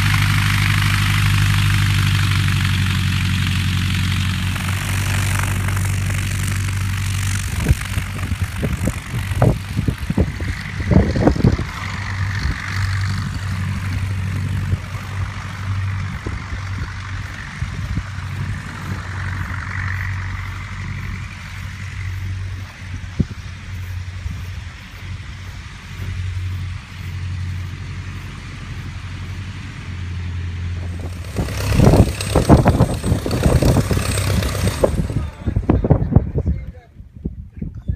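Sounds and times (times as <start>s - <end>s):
light aircraft engine idling: 0.0s - 37.9s.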